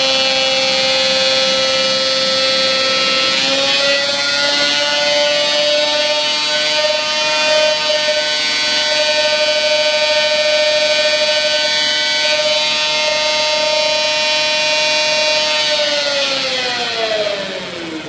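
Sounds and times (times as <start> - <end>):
motorcycle engine high whine: 0.0 - 18.0.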